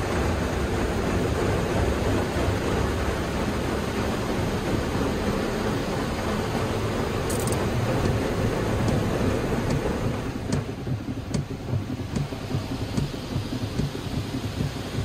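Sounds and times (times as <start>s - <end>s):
water spray rushing: 0.0s - 15.0s.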